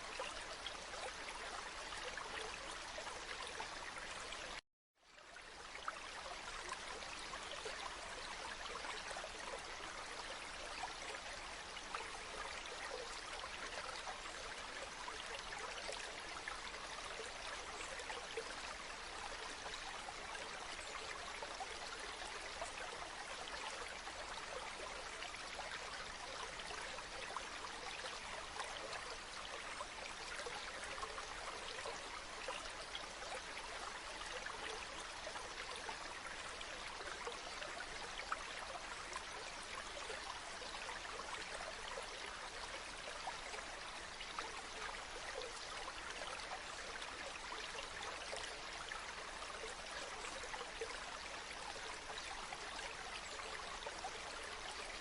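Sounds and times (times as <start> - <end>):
stream babbling over stones: 5.2 - 55.0.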